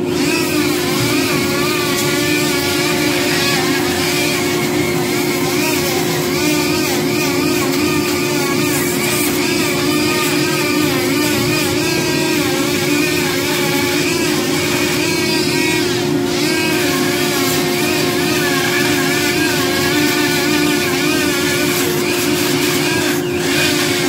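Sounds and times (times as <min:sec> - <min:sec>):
rotary tool sanding wood: 0:00.0 - 0:24.0.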